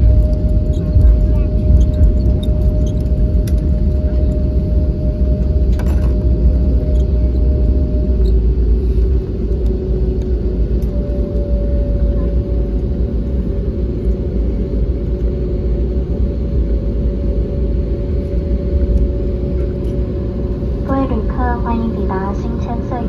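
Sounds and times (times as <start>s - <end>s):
low rumble of wheels: 0.0s - 22.7s
aircraft engine hum: 0.0s - 23.0s.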